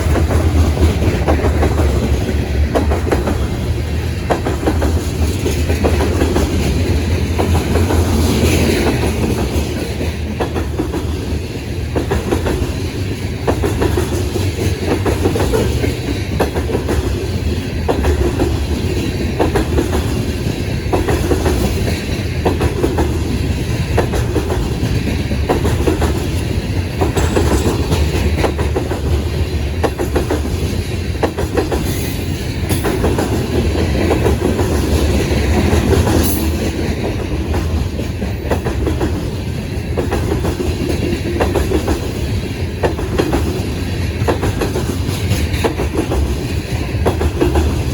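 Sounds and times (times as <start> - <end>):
train cars rumbling past: 0.0 - 47.9
wheels clacking on rail joints: 0.0 - 47.9.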